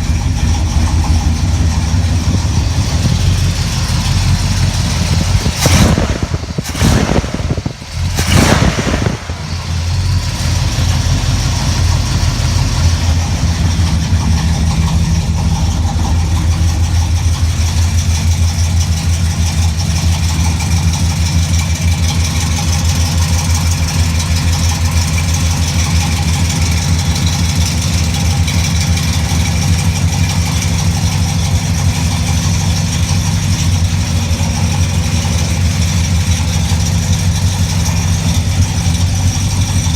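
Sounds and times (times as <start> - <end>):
car engine idling: 0.0 - 39.9
car engine revving: 0.0 - 39.9.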